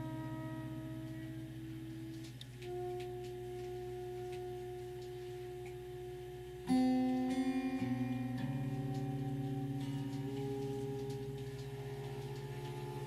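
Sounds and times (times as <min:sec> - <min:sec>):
bright wavering pulsing tone: 0:00.0 - 0:13.0
held drone tones: 0:00.0 - 0:13.0.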